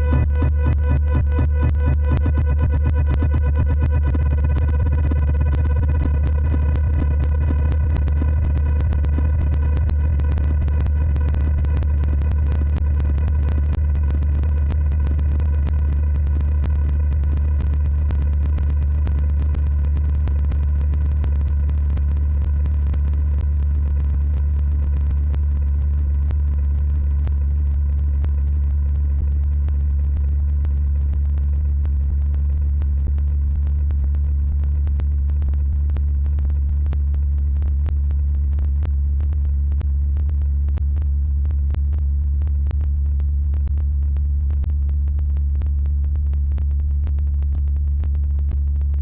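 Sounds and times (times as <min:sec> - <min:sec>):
crackling clicks: 0:00.0 - 0:49.0
low synthetic drone: 0:00.0 - 0:49.0.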